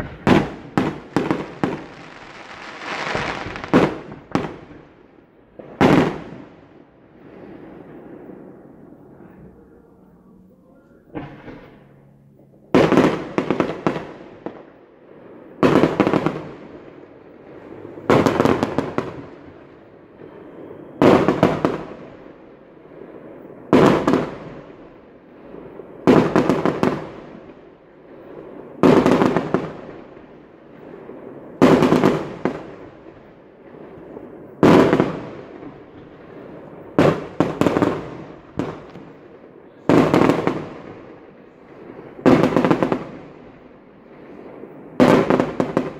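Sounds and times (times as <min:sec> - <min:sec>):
fireworks bursting with crackling: 0:00.0 - 0:08.9, 0:12.7 - 0:45.9.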